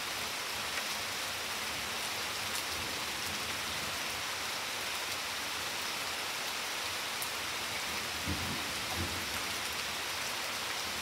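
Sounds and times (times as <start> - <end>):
rain falling on plants: 0.0 - 11.0.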